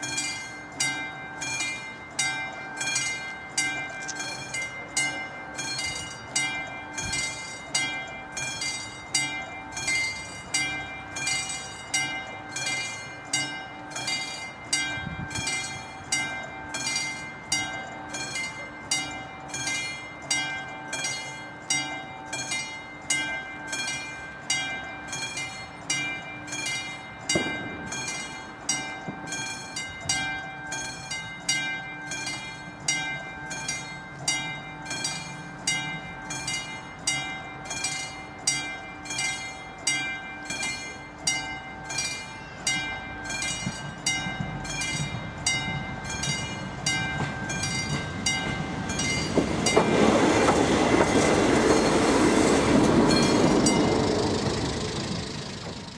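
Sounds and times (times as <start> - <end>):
approaching railcar rumble: 0.0 - 55.9
level crossing warning bell: 0.0 - 55.9.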